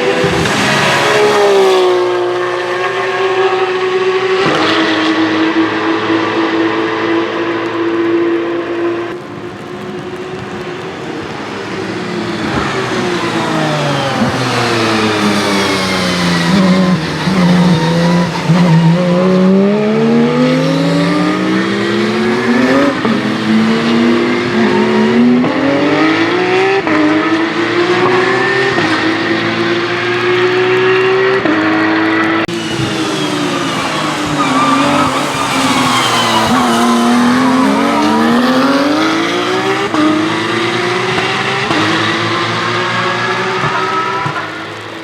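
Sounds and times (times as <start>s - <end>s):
race car engine: 0.0s - 45.0s.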